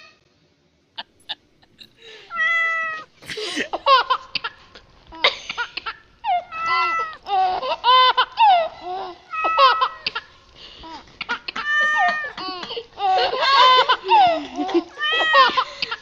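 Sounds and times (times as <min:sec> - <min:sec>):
high-pitched laughing and giggling: 0:01.0 - 0:10.3, 0:11.3 - 0:16.0.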